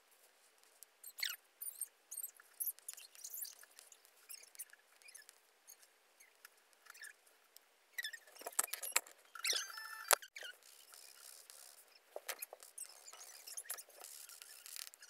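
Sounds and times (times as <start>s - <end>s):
drawing tool squeaking on paper: 1.0s - 7.2s, 8.0s - 15.0s.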